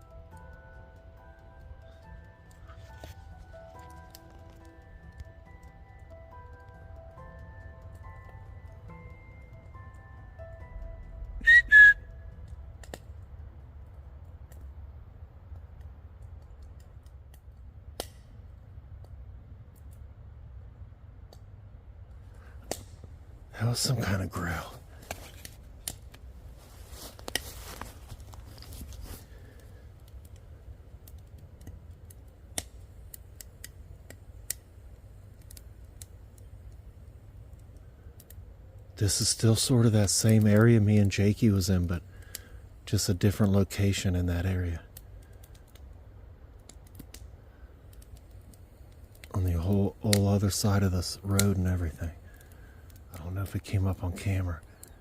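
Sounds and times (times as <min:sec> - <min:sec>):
faint clicks and snaps: 0:00.0 - 0:14.8, 0:15.5 - 0:20.1, 0:20.8 - 0:23.2, 0:24.0 - 0:39.0, 0:42.0 - 0:43.2, 0:44.9 - 0:50.4, 0:54.2 - 0:55.0
steady low rumble: 0:00.0 - 0:55.0.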